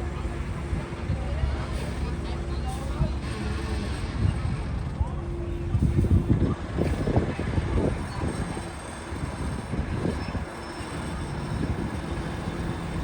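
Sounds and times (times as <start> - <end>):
bulldozer diesel engine rumble: 0.0 - 13.0.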